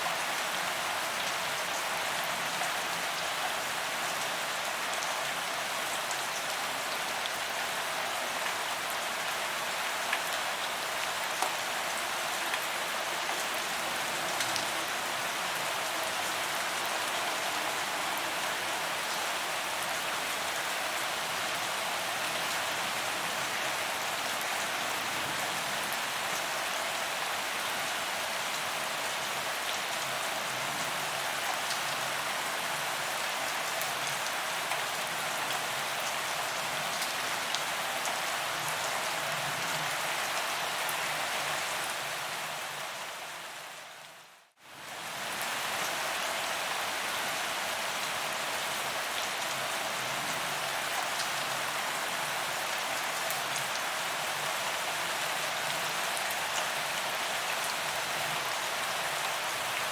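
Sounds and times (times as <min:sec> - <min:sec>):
rain on pavement: 0:00.1 - 0:43.6, 0:44.8 - 0:59.9.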